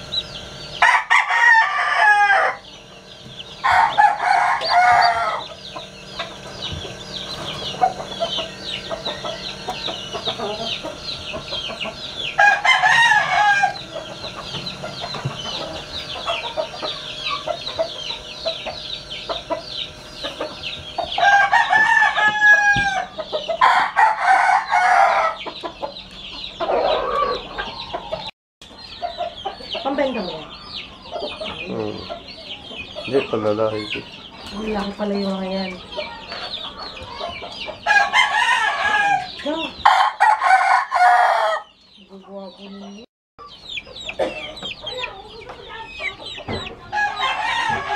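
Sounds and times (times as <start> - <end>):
chickens clucking and crowing: 0.0 - 47.9
chicks peeping: 0.0 - 47.9.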